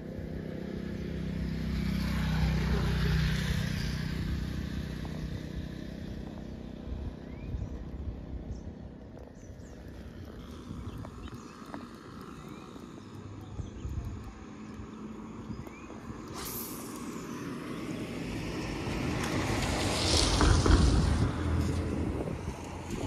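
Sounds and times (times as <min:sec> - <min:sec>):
motor vehicle passing: 0:00.0 - 0:23.0.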